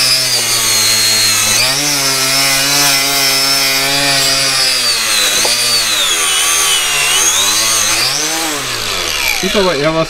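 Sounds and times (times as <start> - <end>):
angle grinder brushing wood: 0.0 - 10.0.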